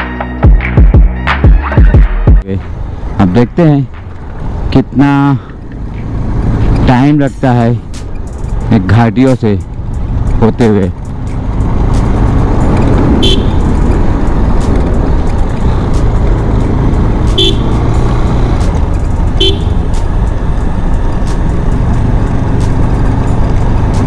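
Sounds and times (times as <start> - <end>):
motorcycle engine riding: 2.6 - 24.0.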